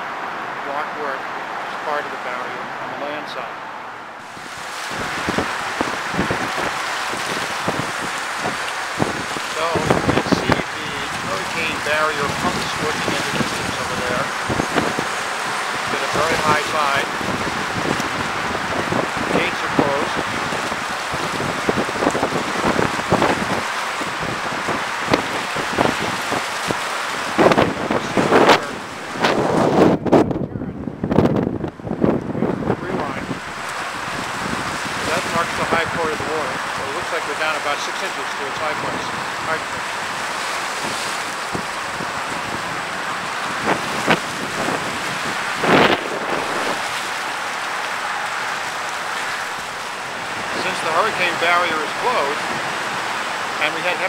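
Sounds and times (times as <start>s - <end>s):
choppy river water: 0.0s - 54.0s
wind on microphone: 4.2s - 54.0s.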